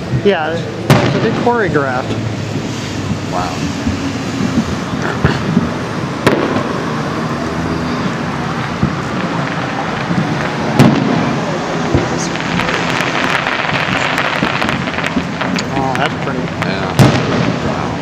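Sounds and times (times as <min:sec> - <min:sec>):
fireworks bursting with sharp bangs: 0:00.0 - 0:18.0
rapid fireworks crackling: 0:00.0 - 0:18.0
rumble of distant fireworks: 0:00.0 - 0:18.0.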